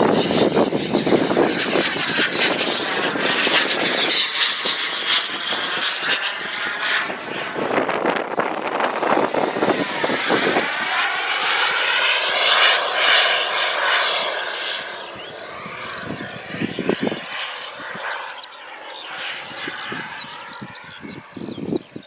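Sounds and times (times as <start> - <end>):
jet turbine flying past: 1.7 - 21.5.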